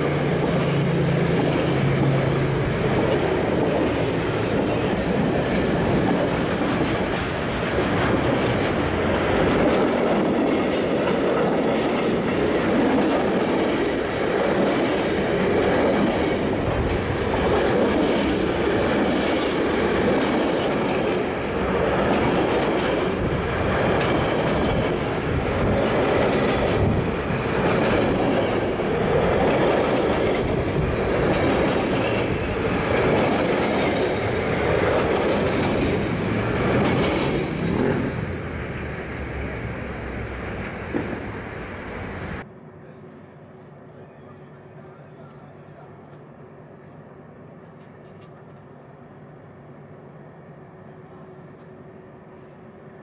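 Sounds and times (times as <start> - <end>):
steel wheels rolling on rails: 0.0 - 42.4.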